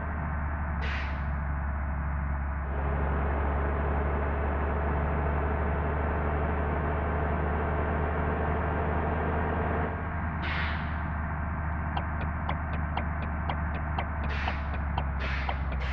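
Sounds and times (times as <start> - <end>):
large engine humming: 0.0 - 15.9.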